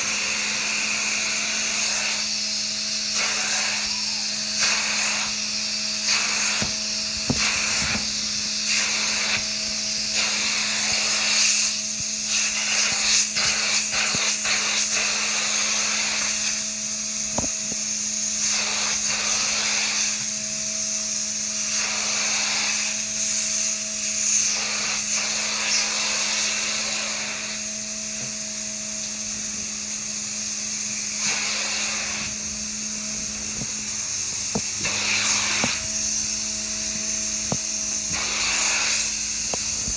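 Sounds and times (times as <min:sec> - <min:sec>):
suction rush over fabric: 0:00.0 - 0:28.4, 0:29.6 - 0:39.9
extraction machine humming and hissing: 0:00.0 - 0:39.9.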